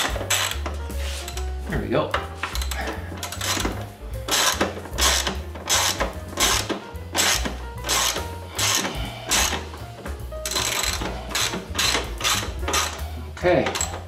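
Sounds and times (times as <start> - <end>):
ratchet wrench clicking: 0.0 - 1.5, 2.5 - 9.7, 10.5 - 14.0.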